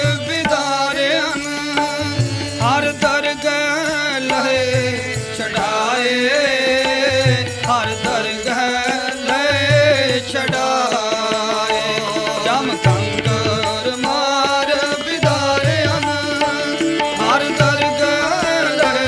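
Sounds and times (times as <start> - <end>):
harmonium: 0.0 - 19.0
man singing: 0.0 - 19.0.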